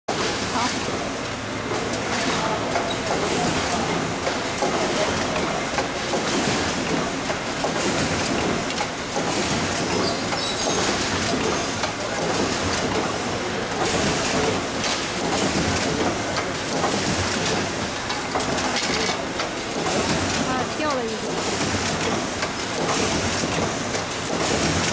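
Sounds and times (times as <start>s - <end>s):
printing machine clattering: 0.1s - 24.9s.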